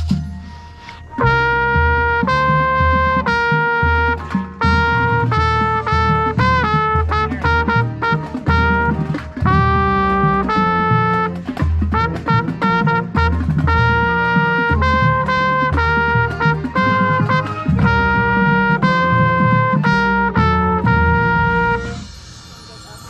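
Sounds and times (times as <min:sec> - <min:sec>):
brass band playing chords: 0:00.0 - 0:22.2
trumpet close to microphone: 0:01.0 - 0:22.3.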